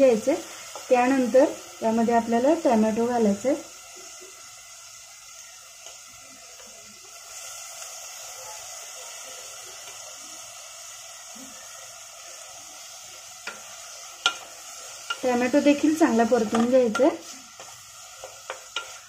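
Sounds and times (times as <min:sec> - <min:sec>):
paste sizzling in hot oil: 0:00.0 - 0:19.0.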